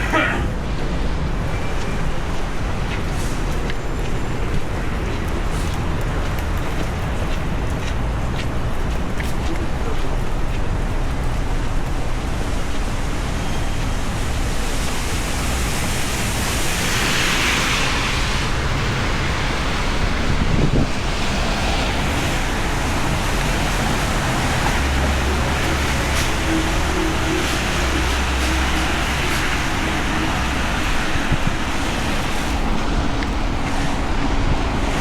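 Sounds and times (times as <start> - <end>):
heavy rain on street: 0.0 - 35.0.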